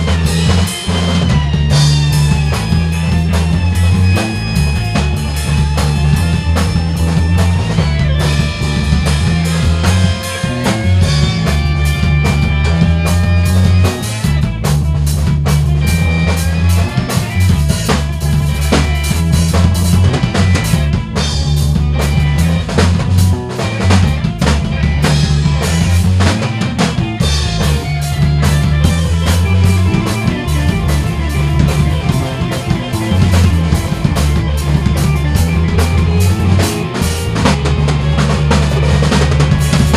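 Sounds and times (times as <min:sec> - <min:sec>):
band music: 0:00.0 - 0:39.9
drum kit playing: 0:00.0 - 0:39.9.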